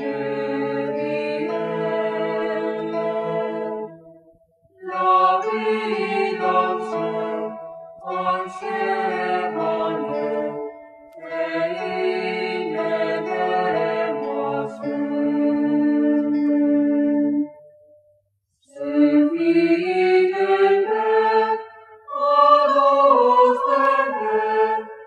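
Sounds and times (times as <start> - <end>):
choir singing held chords: 0.0 - 18.0, 18.6 - 25.0.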